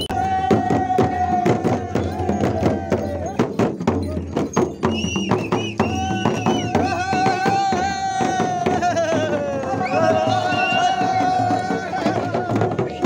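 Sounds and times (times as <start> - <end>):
frame drums beaten: 0.0 - 13.0.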